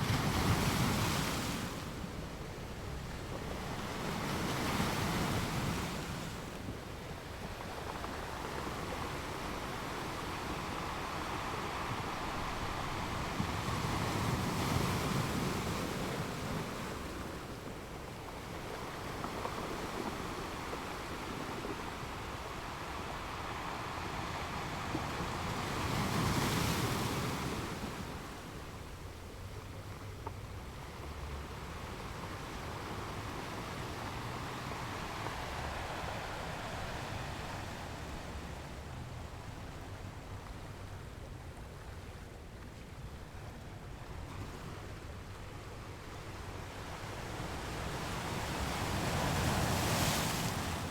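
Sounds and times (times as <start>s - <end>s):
ocean waves washing: 0.0s - 42.4s, 43.1s - 50.9s
waves breaking: 0.0s - 50.9s.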